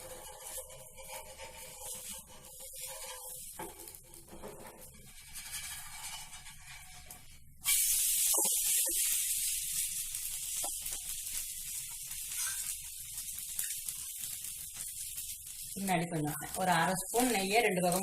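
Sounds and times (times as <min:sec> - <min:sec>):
batter sizzling on a hot pan: 0:00.0 - 0:18.0.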